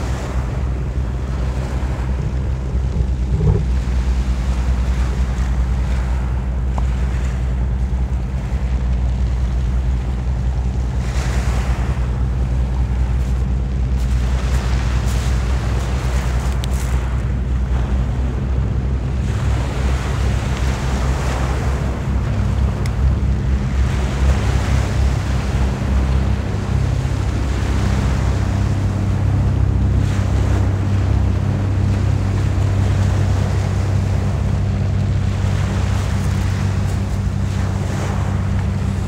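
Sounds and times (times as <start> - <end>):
steady low hum: 0.0 - 39.0
waves washing over pebbles: 0.0 - 39.0
wind rumbling on microphone: 0.0 - 39.0.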